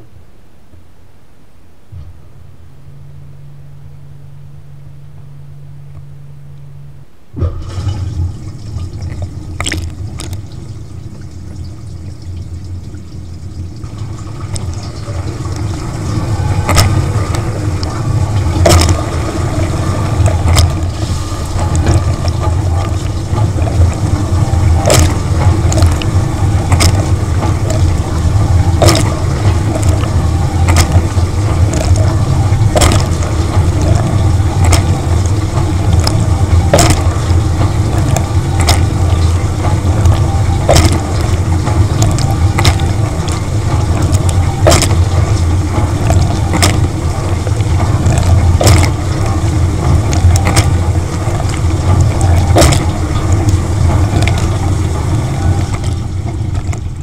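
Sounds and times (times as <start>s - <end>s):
dishwasher pump running: 7.4s - 57.0s
water jet splashing: 7.4s - 57.0s.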